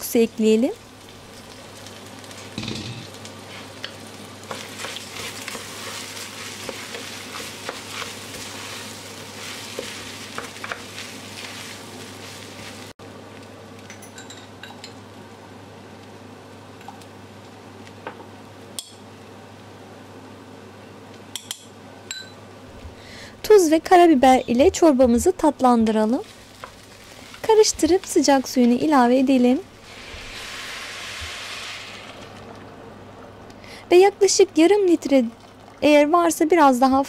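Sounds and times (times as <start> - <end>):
grains sizzling in oil: 0.0 - 19.7, 22.7 - 36.9.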